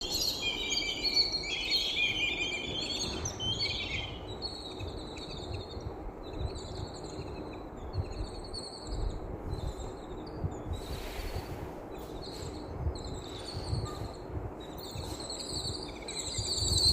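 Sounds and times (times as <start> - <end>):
birds chirping and singing: 0.0 - 16.9
low background rumble: 0.0 - 16.9.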